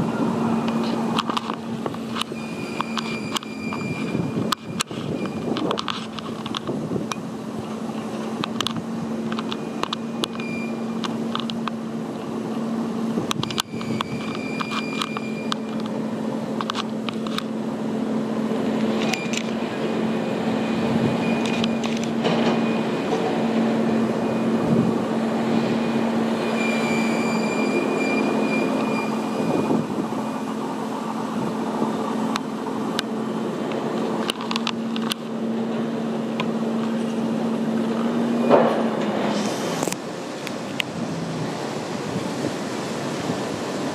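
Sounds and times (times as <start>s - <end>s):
diesel engine humming: 0.0s - 43.9s
high machinery whines: 0.0s - 43.9s.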